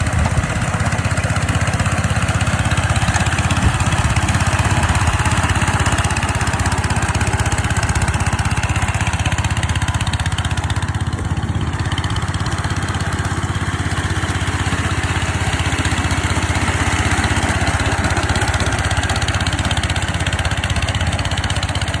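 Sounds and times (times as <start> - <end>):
small tractor engine running: 0.0 - 22.0.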